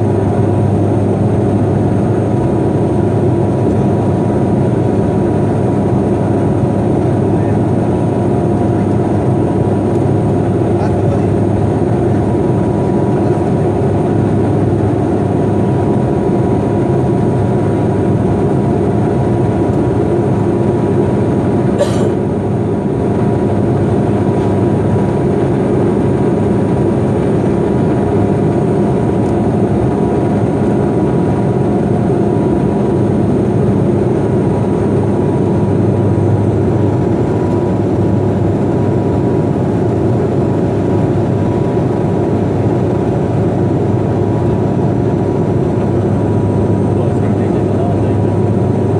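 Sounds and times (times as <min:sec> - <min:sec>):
airliner cabin drone: 0:00.0 - 0:48.9
engine and propeller tones: 0:00.0 - 0:48.9.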